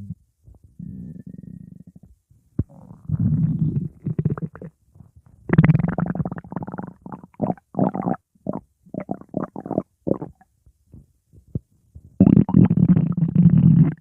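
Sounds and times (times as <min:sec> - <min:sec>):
stomach growling: 0:00.8 - 0:10.4, 0:12.2 - 0:14.0.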